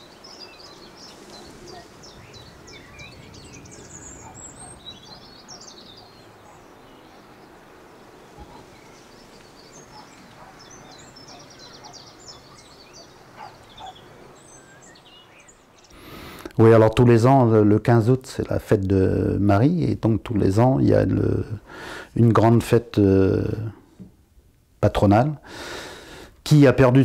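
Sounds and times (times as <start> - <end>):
small birds chirping: 0.0 - 22.1
faint outdoor hiss: 0.0 - 27.0.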